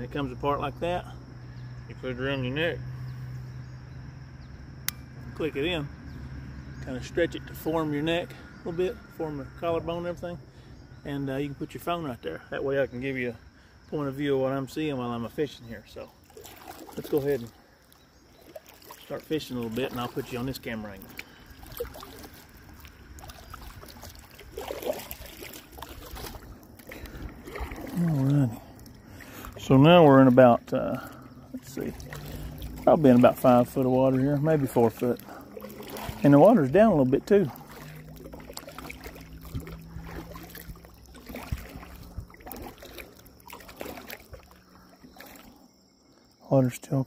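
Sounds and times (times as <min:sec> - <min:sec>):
low steady hum: 0:00.0 - 0:46.4
water splashing around kayak: 0:00.0 - 0:46.7.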